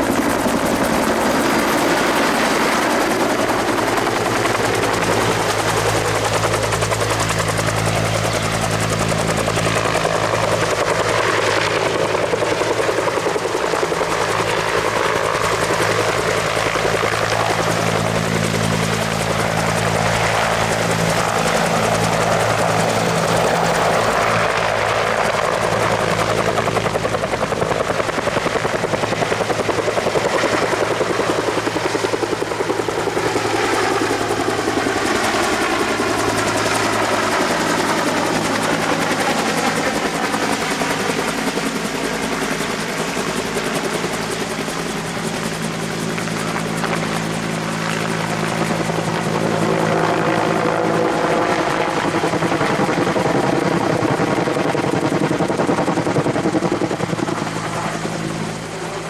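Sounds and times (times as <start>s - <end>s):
helicopter rotor chop: 0.0s - 59.0s
helicopter turbine hum: 0.0s - 59.0s.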